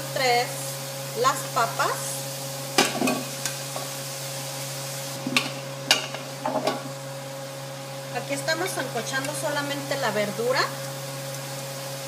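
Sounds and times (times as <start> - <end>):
soft sizzle: 0.0 - 12.0.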